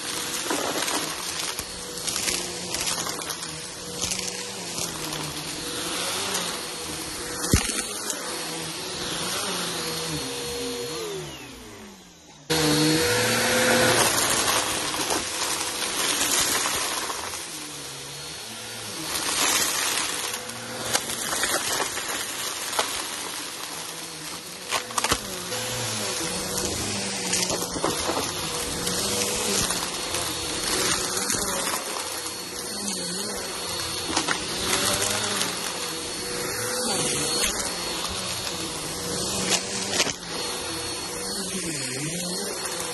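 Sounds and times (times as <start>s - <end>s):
vacuum cleaner motor whine: 0.0s - 42.9s.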